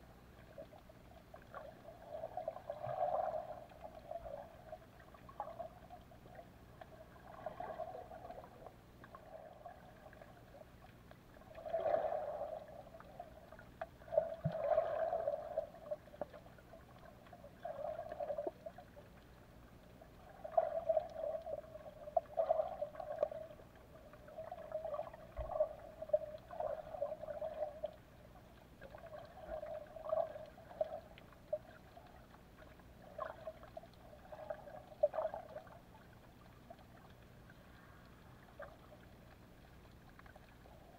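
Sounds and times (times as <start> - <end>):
muffled underwater gurgling: 0.0 - 40.9.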